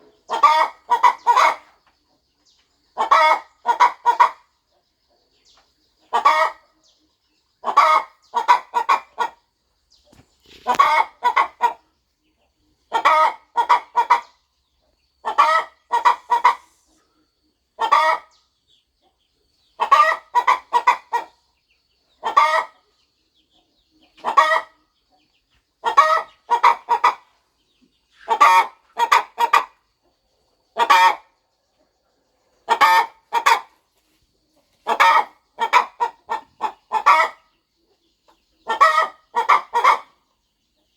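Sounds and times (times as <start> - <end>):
hen clucking: 0.0 - 40.9.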